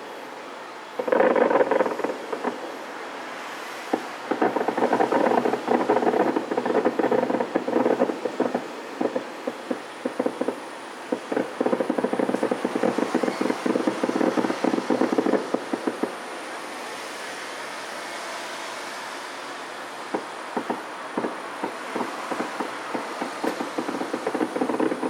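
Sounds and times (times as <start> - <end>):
distant fireworks popping: 0.9 - 17.2, 19.6 - 25.0
fireworks hiss: 1.0 - 25.0.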